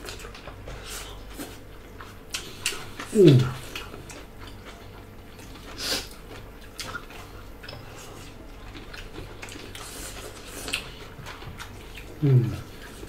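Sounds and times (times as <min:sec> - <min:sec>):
wet chewing and lip smacks: 0:00.0 - 0:13.0.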